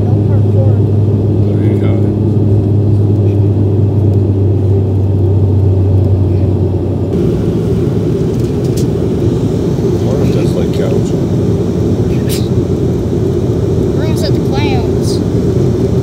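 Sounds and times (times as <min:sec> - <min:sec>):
propeller engines droning: 0:00.0 - 0:16.0.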